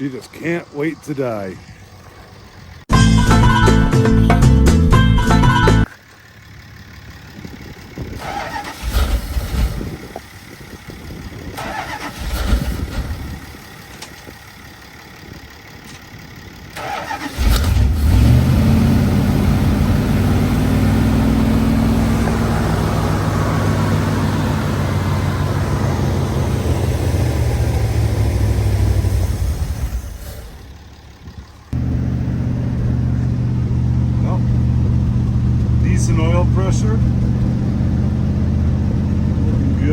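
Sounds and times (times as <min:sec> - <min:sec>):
pickup engine cold start: 0:05.0 - 0:39.9.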